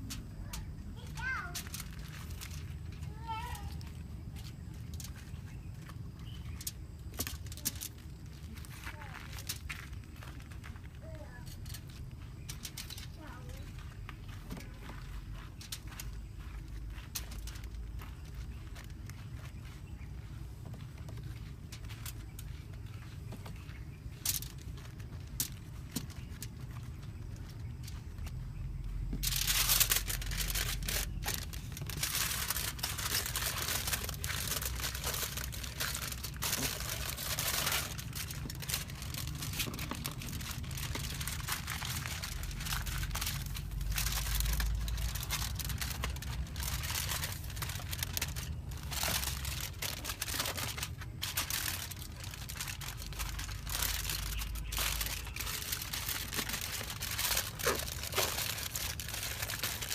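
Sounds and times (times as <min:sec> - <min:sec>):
crinkling and rustling: 0:00.0 - 0:59.9.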